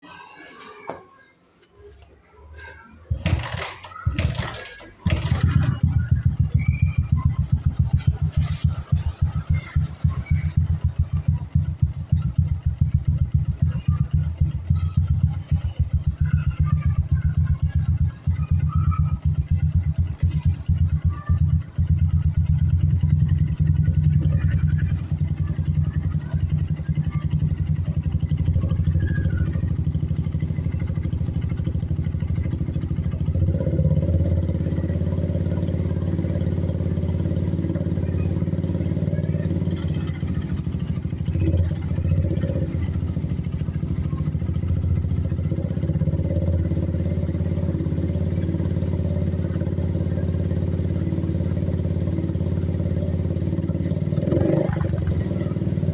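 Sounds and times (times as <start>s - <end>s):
motorcycle engine running: 3.1s - 55.9s.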